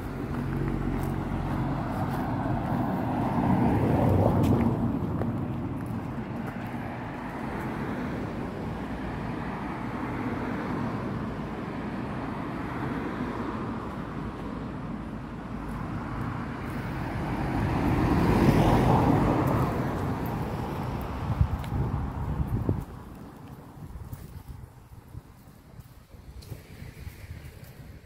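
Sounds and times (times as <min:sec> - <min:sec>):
road vehicle passing: 0:00.0 - 0:28.0.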